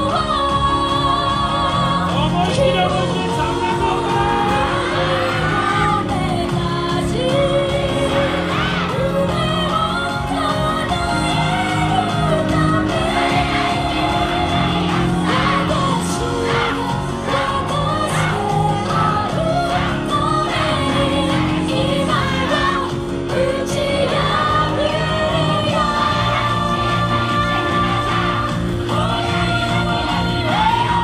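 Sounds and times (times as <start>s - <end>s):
dance music with singing: 0.0s - 31.0s
pulsing bass line: 0.0s - 31.0s.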